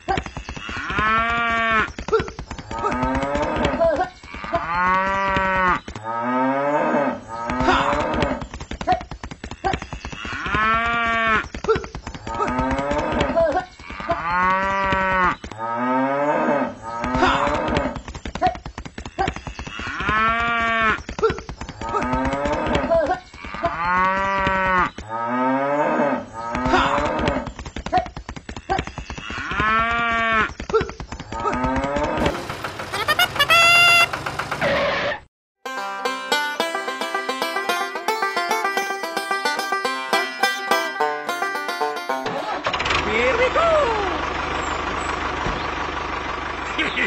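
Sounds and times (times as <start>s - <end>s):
barnyard background: 0.0s - 47.0s.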